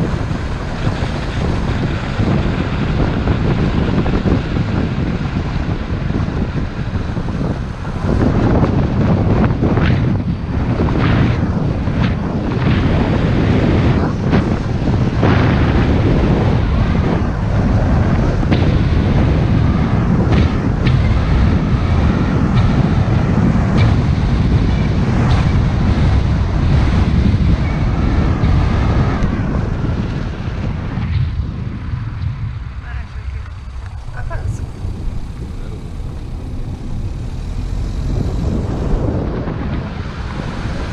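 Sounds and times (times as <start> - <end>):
tyres rumbling on road: 0.0 - 40.9
wind buffeting microphone: 0.0 - 40.9.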